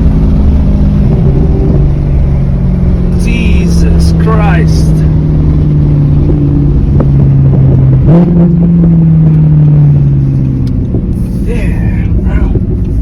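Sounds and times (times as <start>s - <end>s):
car engine running loud: 0.0s - 13.0s.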